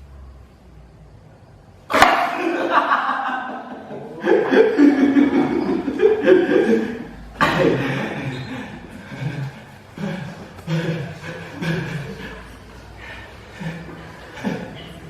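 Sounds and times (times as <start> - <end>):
loud human laughter: 1.9 - 15.0.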